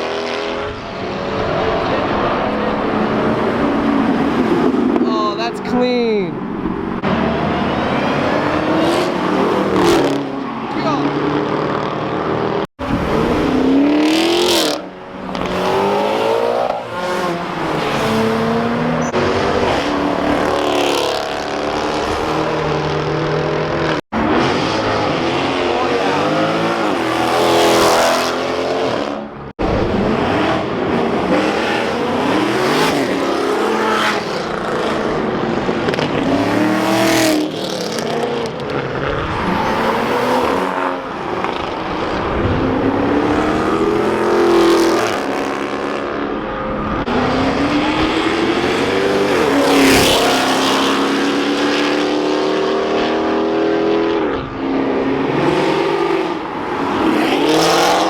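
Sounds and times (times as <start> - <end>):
cars accelerating hard: 0.0 - 5.8, 6.4 - 58.0.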